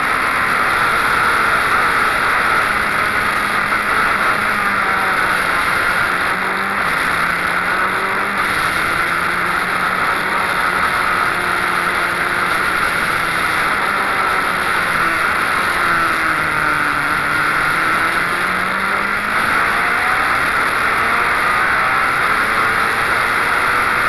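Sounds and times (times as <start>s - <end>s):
race car engine: 0.0s - 24.0s
wind and road noise: 0.0s - 24.0s.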